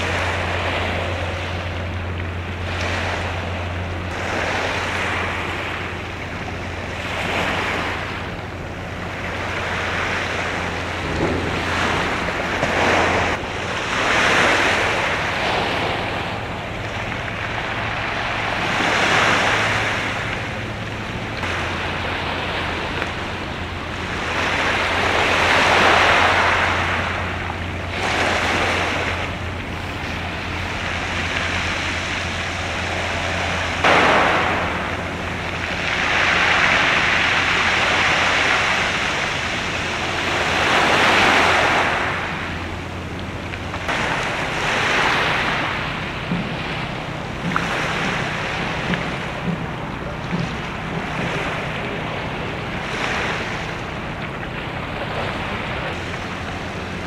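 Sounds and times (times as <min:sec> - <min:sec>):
wind on the microphone: 0:00.0 - 0:54.2
steady low hum: 0:00.0 - 0:57.0
waves washing: 0:00.0 - 0:57.0.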